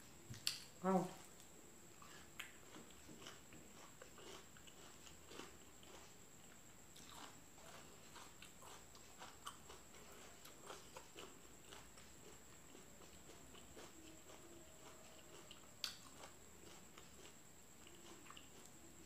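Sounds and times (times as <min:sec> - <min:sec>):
person chewing: 0:01.3 - 0:19.0.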